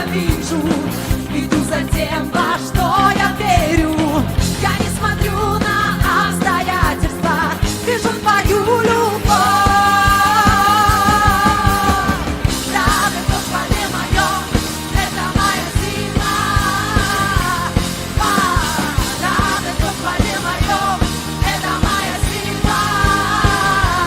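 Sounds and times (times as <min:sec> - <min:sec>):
rock band playing: 0:00.0 - 0:24.0
steady drums: 0:00.0 - 0:24.0.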